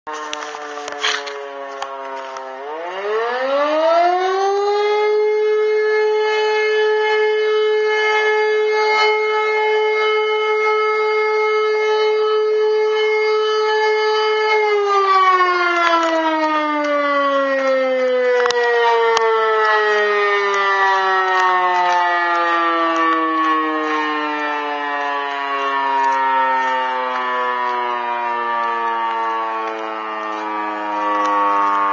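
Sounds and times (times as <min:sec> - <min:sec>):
motor-driven fire siren: 0:00.1 - 0:31.9.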